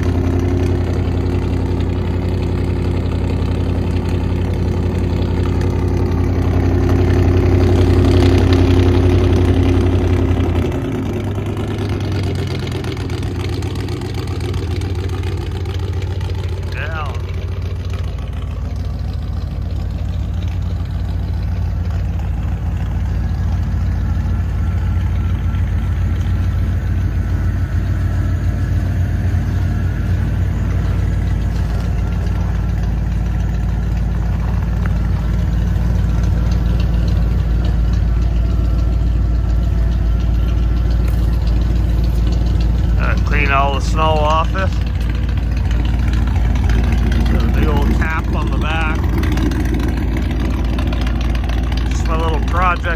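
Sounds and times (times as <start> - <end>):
engine exhaust rumble idling: 0.0 - 52.9.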